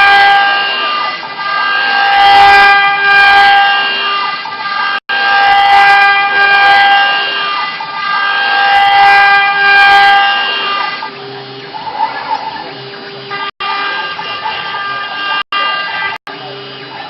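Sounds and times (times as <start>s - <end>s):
engraving machine spindle whine: 0.0s - 17.0s.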